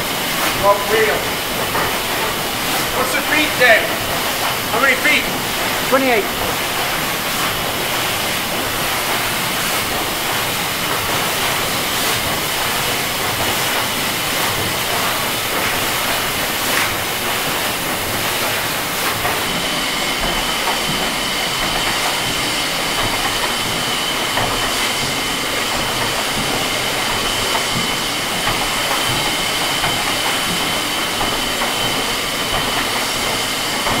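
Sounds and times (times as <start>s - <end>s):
steam engine hiss and machinery: 0.0s - 34.0s.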